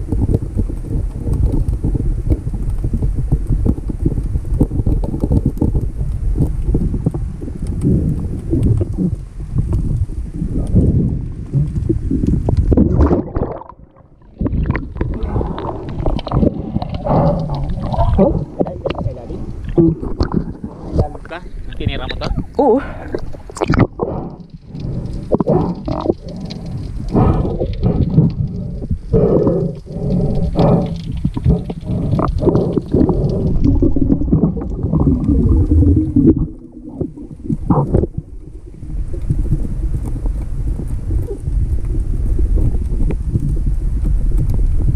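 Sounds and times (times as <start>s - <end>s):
crackles and knocks from swimming: 0.0s - 44.9s
underwater water rushing and gurgling: 0.0s - 44.9s
water splashing and sloshing: 0.0s - 44.9s.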